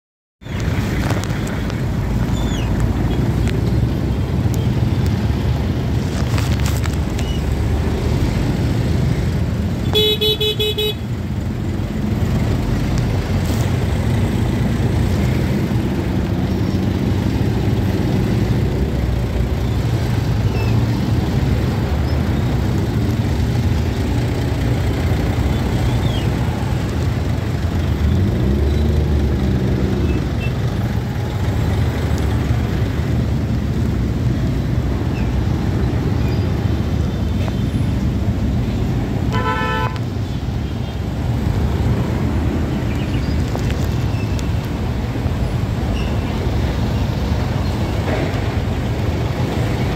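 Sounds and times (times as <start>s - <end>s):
low rumble of traffic: 0.4s - 49.9s
truck engines running: 0.4s - 49.9s
motorcycle engines running: 0.5s - 49.9s.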